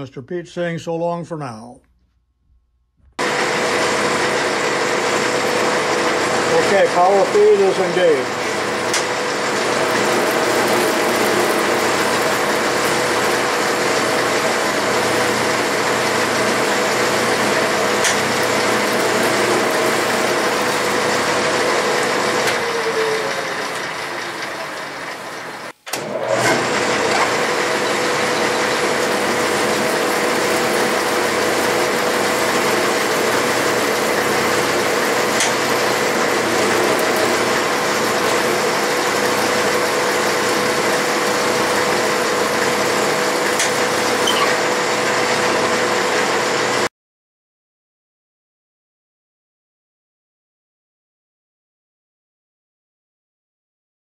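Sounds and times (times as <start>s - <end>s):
metal lathe humming and whining: 3.2s - 46.8s.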